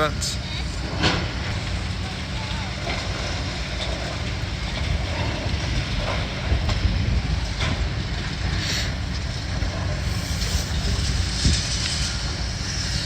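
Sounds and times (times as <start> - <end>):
demolition machinery rumbling: 0.0 - 13.0.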